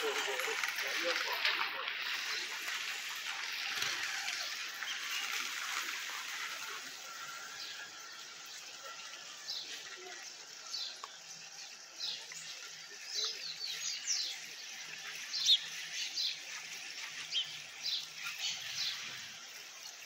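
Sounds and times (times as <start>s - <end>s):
even outdoor hiss: 0.0s - 20.0s.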